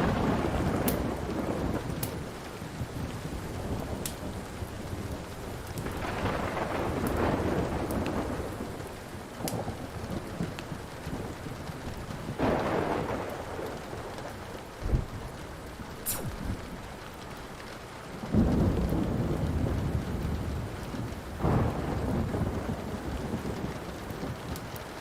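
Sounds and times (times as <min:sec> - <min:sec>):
steady rain: 0:00.0 - 0:25.0
thunder rumbling: 0:00.0 - 0:25.0
wood fire crackling: 0:00.0 - 0:25.0.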